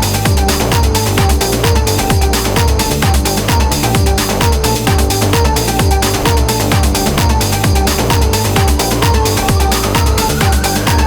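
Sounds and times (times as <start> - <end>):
electronic dance music: 0.0 - 11.0
kick drum: 0.0 - 11.0
rising synth sweep: 0.0 - 11.0.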